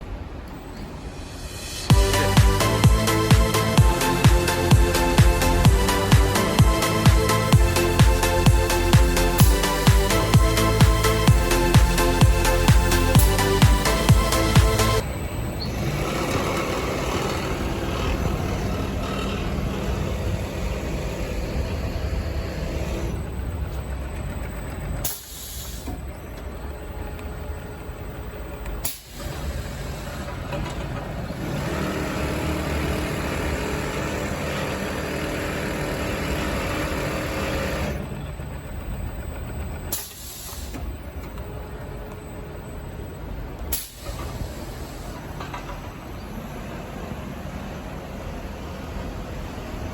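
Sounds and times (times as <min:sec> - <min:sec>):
machinery running with hiss: 0:00.0 - 0:49.9.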